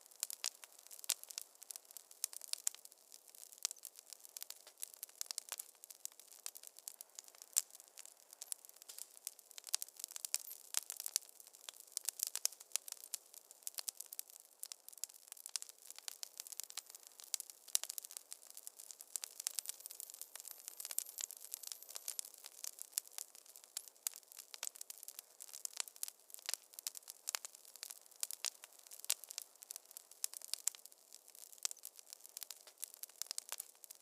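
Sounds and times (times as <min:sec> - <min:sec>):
wood fire snapping and popping: 0:00.0 - 0:34.0.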